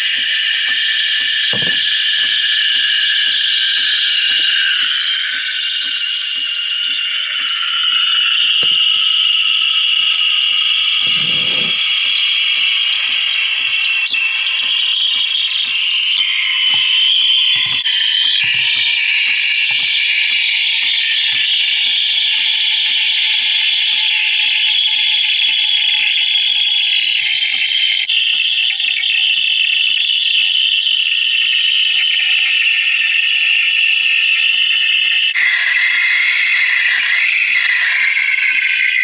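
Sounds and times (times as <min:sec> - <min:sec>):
espresso machine hiss: 0:00.0 - 0:39.0.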